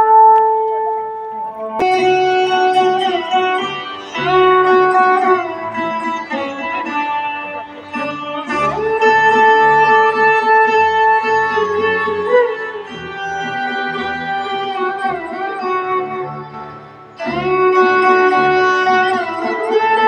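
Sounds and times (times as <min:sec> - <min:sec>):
instrumental music over loudspeakers: 0:00.0 - 0:20.0.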